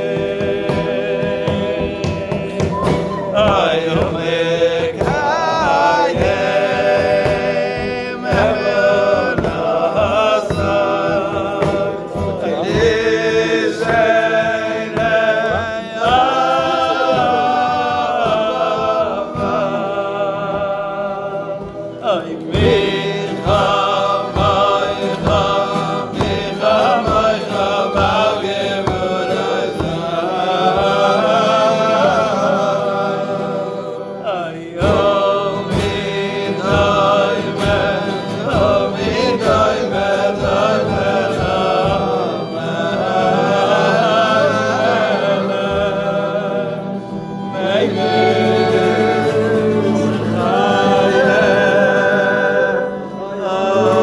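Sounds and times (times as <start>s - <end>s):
group singing: 0.0s - 54.0s
steady beat: 0.0s - 54.0s.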